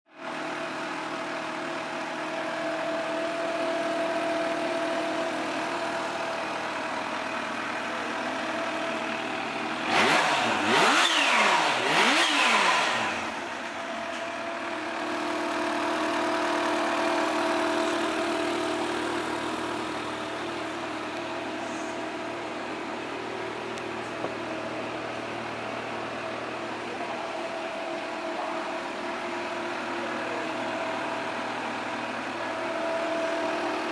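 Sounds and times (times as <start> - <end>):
motorcycle engine idling and revving: 0.1 - 33.9.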